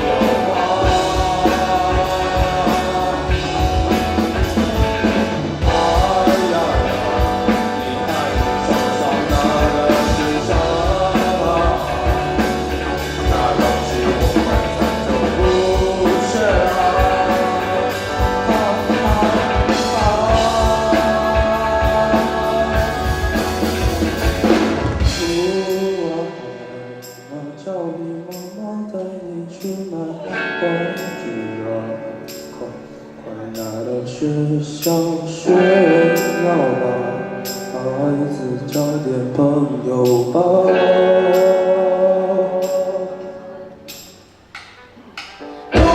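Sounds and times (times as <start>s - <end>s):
rock band music with singing: 0.0s - 45.9s.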